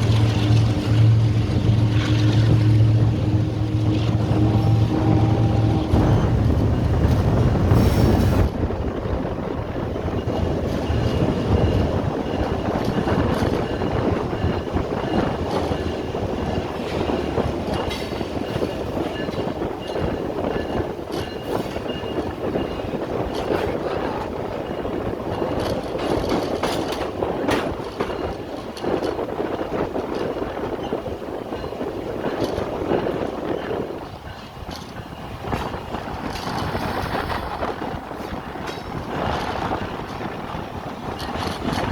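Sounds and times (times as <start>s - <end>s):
train wheels clattering over rail joints: 0.0s - 41.9s.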